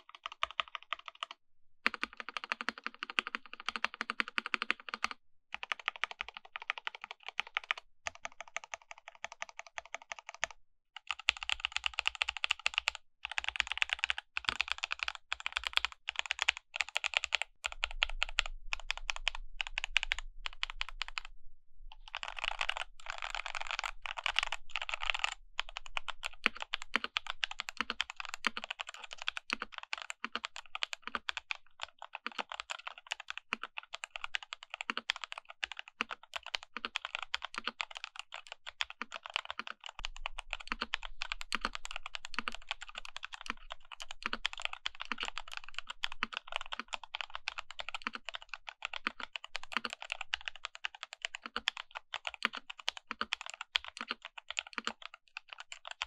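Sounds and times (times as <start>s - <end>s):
fast typing on mechanical keyboard: 0.0s - 21.3s, 22.0s - 56.0s.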